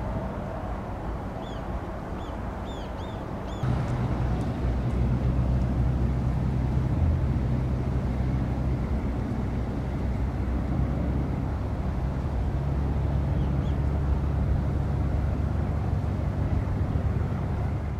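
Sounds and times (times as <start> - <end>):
ship engine low drone: 0.0 - 17.9.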